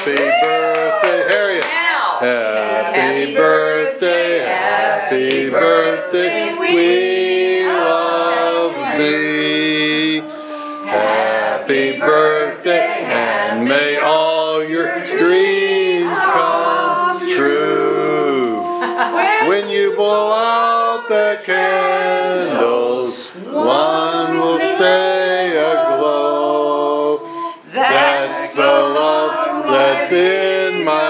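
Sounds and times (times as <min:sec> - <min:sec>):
people singing together: 0:00.0 - 0:31.0.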